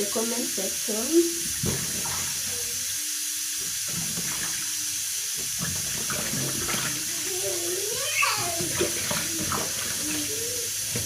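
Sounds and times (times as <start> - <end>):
water splashing in sink: 0.0 - 11.0.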